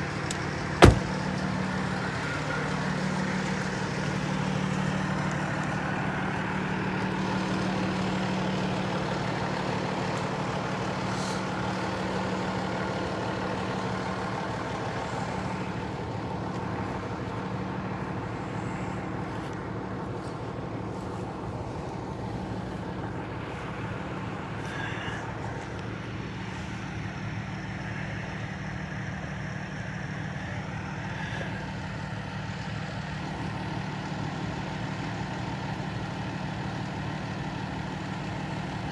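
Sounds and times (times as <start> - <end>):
large vehicle engine idling: 0.0 - 38.9
traffic noise: 0.0 - 38.9.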